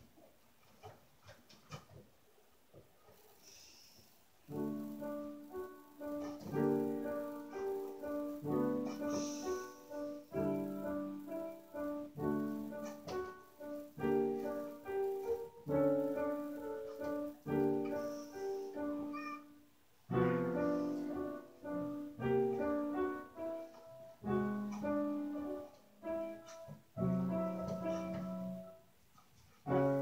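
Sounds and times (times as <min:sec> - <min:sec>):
piano music: 0:04.5 - 0:28.9, 0:29.7 - 0:30.0.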